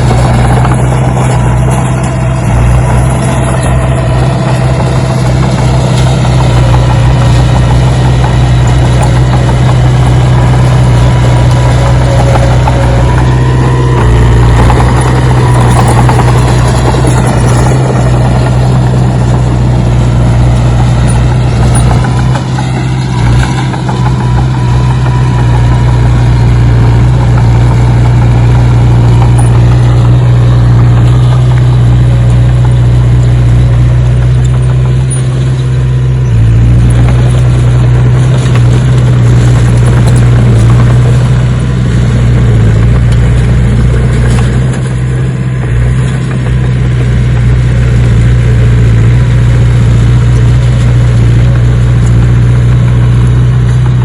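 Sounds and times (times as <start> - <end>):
excavator engine droning: 0.0 - 54.0
shifting whines: 0.0 - 54.0.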